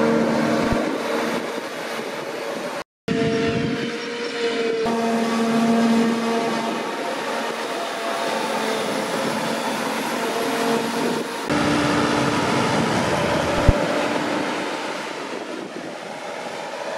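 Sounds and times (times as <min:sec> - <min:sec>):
forage harvester droning: 0:00.0 - 0:16.9.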